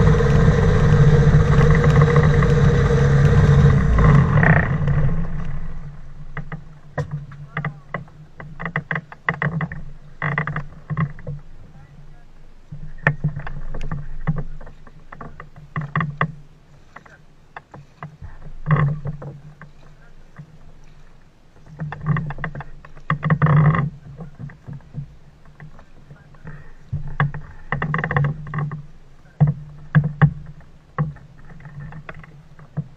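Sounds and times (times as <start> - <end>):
small engine idling: 0.0 - 32.9.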